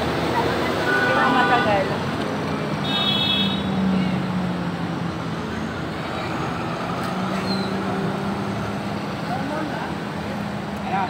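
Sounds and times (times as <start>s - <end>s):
road noise: 0.0s - 11.0s
vehicle engines running: 0.0s - 11.0s.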